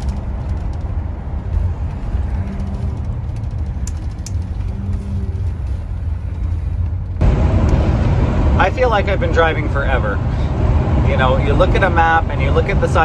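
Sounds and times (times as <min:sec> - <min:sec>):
engine and road rumble: 0:00.0 - 0:13.0
faint engine hum: 0:00.0 - 0:13.0.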